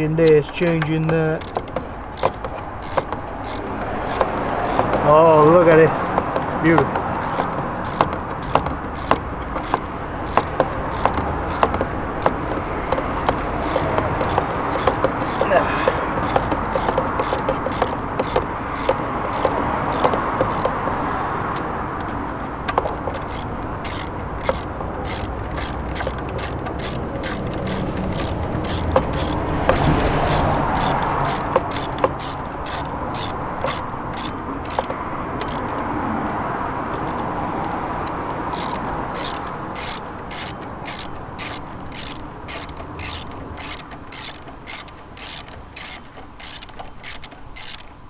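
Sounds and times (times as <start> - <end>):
hand ratchet clicking: 0.0 - 48.0.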